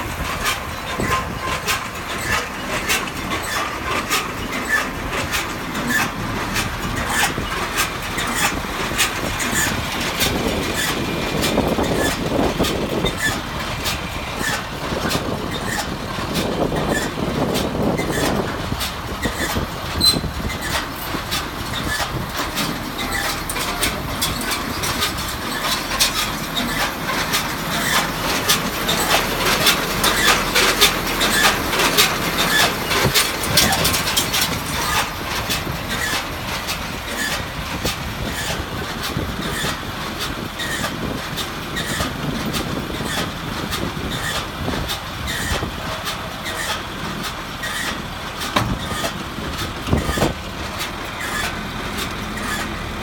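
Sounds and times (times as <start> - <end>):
baler mechanical rumble: 0.0 - 53.0.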